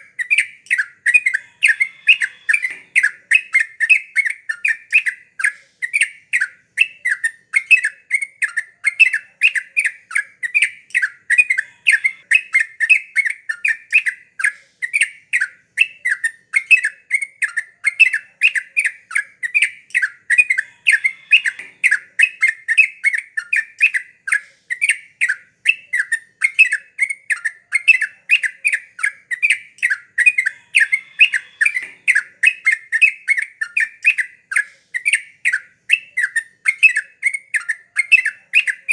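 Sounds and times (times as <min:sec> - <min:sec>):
bird chattering call: 0:00.2 - 0:07.9, 0:08.7 - 0:14.1, 0:17.9 - 0:38.9.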